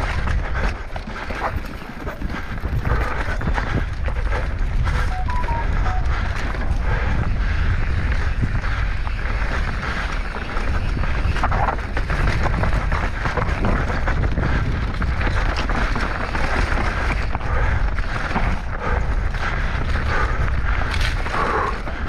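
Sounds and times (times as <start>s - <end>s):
bike rattling and clattering: 0.0s - 5.1s, 6.1s - 22.0s
wind buffeting microphone: 0.0s - 22.0s.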